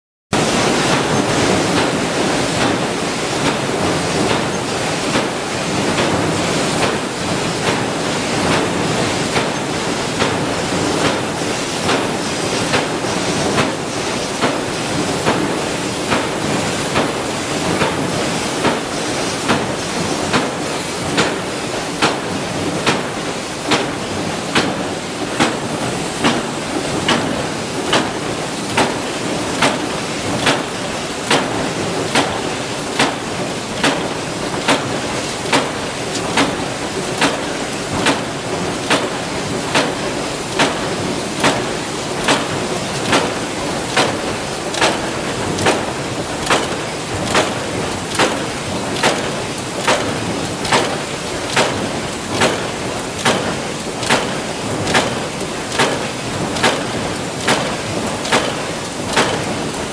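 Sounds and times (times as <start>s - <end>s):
factory machinery din: 0.4s - 59.9s.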